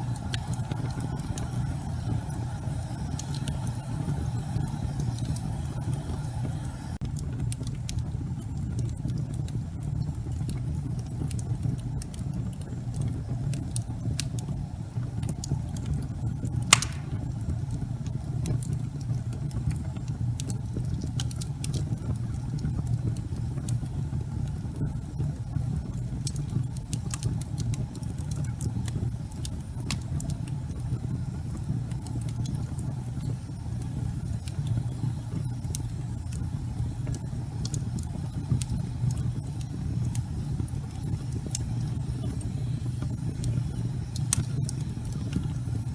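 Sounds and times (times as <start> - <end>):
logs crackling in fireplace: 0.0 - 45.9.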